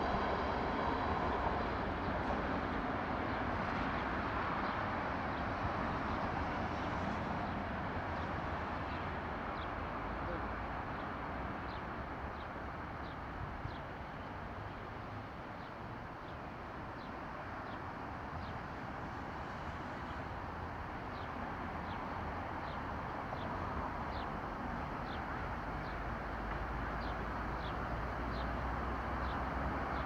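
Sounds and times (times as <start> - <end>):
distant city traffic hum: 0.0 - 30.0.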